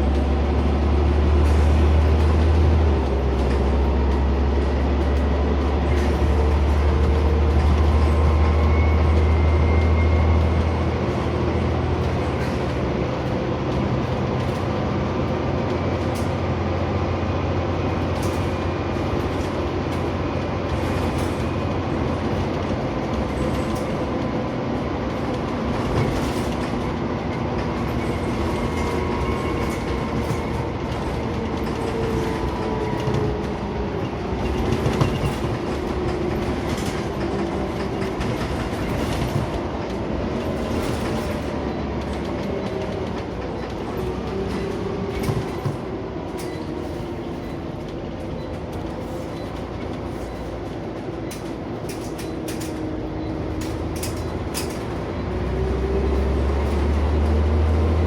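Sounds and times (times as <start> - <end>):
bus diesel engine: 0.0 - 58.0
road and body rumble: 0.0 - 58.0.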